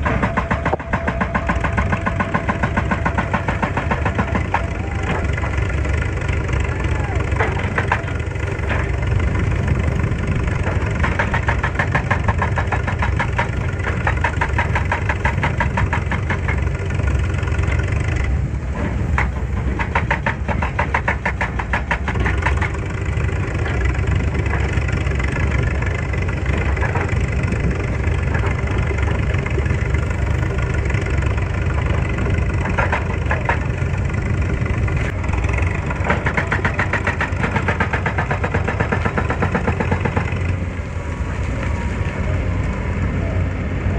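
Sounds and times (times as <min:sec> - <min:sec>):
fast even clatter: 0:00.0 - 0:40.7
excavator diesel engine running: 0:00.0 - 0:43.9.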